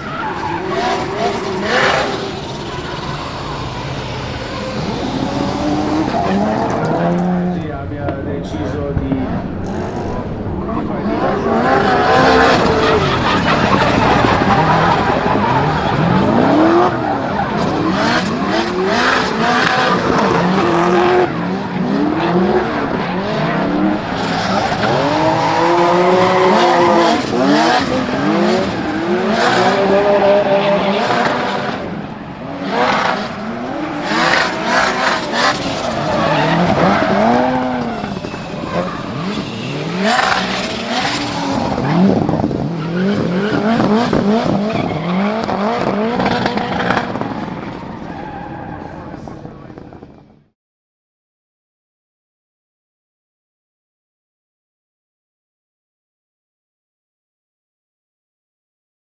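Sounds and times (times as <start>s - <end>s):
car engine revving: 0.0s - 50.2s
tyres squealing and skidding: 0.0s - 50.2s.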